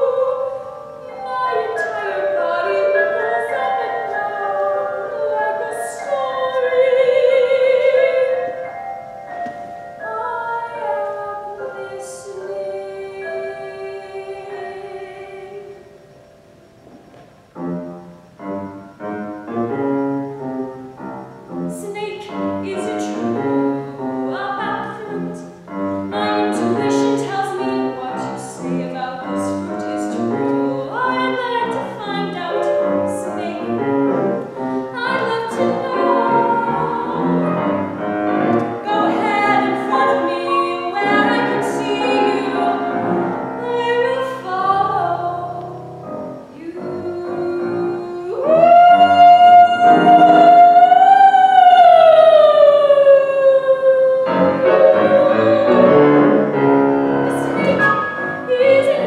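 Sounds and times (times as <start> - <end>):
woman singing operatically: 0.0 - 8.8, 10.0 - 16.0, 21.7 - 38.2, 38.8 - 45.8, 46.4 - 59.0
grand piano: 0.0 - 59.0.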